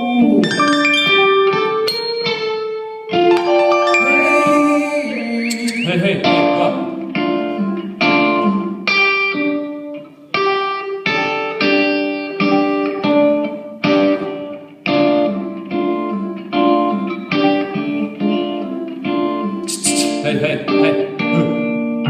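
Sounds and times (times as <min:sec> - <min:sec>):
electric guitar chords: 0:00.0 - 0:22.0.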